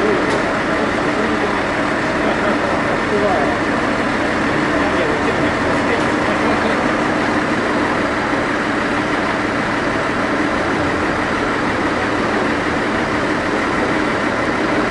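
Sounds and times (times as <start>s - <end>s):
diesel railcar engine idling: 0.0s - 14.9s.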